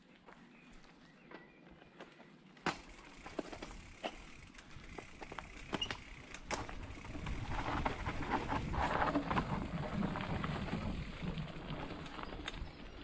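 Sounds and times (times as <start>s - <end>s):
bike tyres rolling on dirt: 0.0s - 13.0s
bike clicks and rattles: 2.6s - 13.0s.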